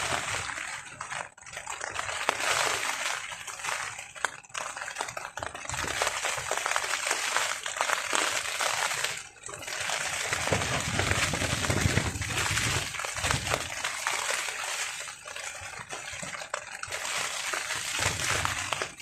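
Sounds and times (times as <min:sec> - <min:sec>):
rain falling on a tarp: 0:00.0 - 0:19.0.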